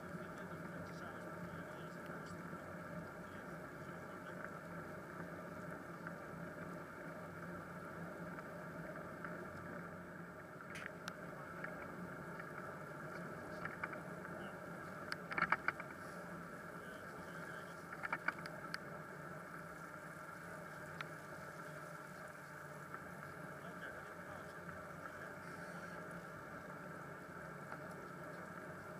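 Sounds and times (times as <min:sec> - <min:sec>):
bicycle rolling on wet asphalt: 0:00.0 - 0:28.9.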